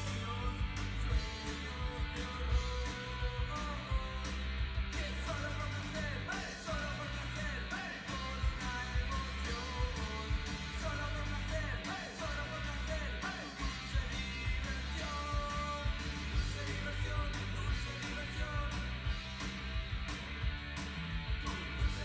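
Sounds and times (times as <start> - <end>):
song with singing and guitar: 0.0 - 22.0
strong steady bass: 0.0 - 22.0.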